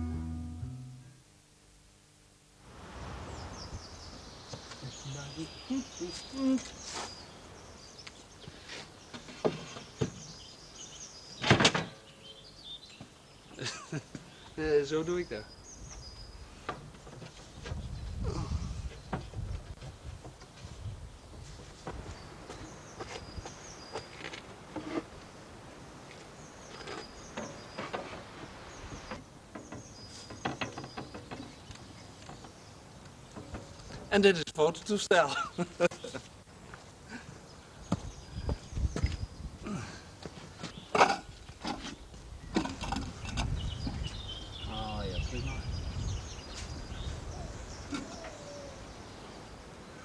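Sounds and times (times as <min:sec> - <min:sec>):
birds chirping: 0:03.2 - 0:20.1, 0:21.1 - 0:24.4, 0:26.2 - 0:50.0.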